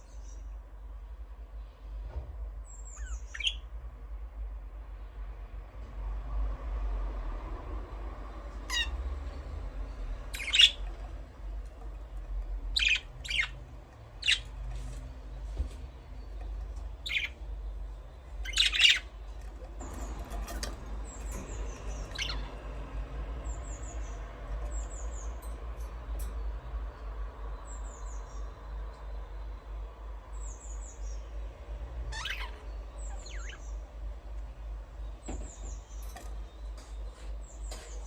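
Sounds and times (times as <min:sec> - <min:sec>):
steady low hum: 0:00.0 - 0:38.0
small birds chirping: 0:02.7 - 0:03.7, 0:08.5 - 0:38.0.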